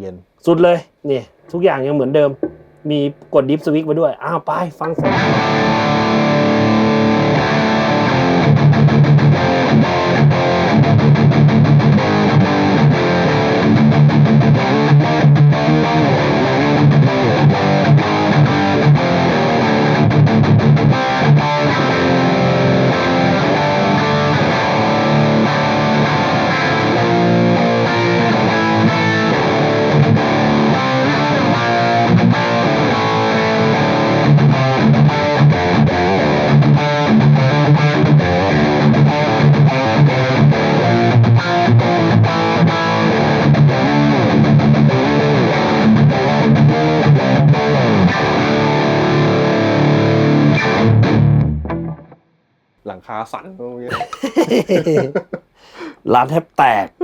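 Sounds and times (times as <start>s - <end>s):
distorted electric guitar riff: 1.1s - 52.1s.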